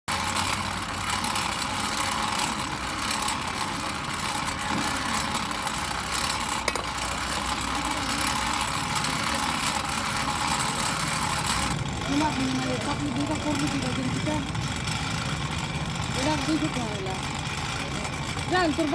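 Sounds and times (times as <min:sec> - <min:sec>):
machine running: 0:00.1 - 0:18.9.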